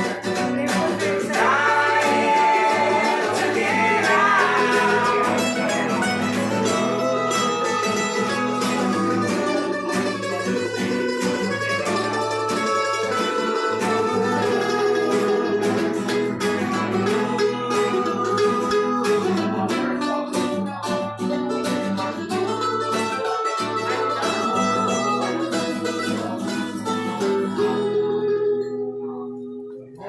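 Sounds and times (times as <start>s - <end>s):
acoustic guitar playing: 0.0s - 30.0s.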